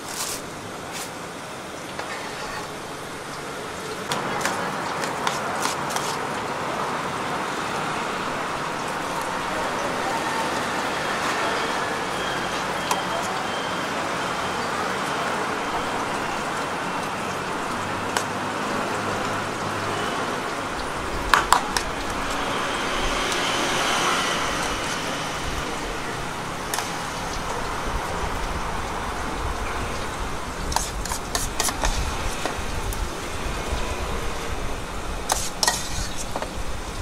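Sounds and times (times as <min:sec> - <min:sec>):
street background noise: 0:00.0 - 0:37.0.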